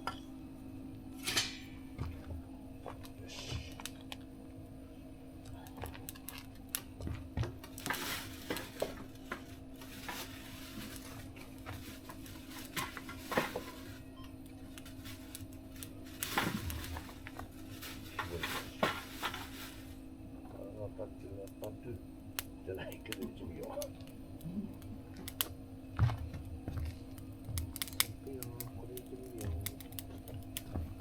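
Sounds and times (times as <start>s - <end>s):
steady low hum: 0.0s - 31.0s
wood fire crackling: 0.0s - 31.0s.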